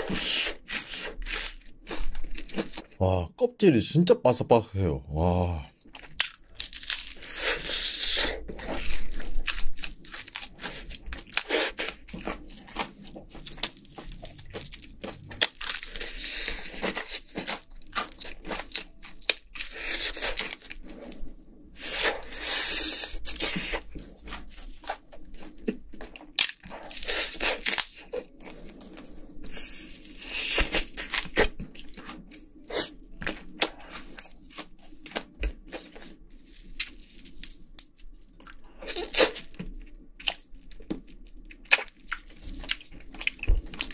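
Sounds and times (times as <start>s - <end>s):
chewing crispy fried chicken: 0.0s - 3.1s, 5.7s - 43.9s.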